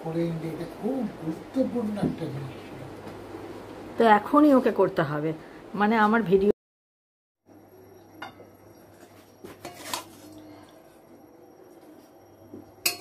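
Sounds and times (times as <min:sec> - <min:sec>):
faint steady hum: 0:00.0 - 0:06.5, 0:07.5 - 0:13.0.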